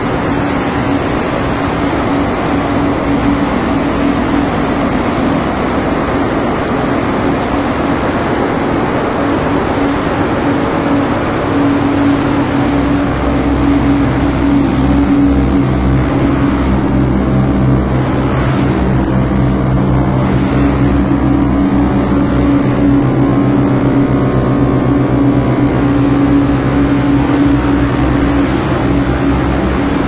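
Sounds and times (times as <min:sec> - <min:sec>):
fluttering electronic drone: 0:00.0 - 0:30.0.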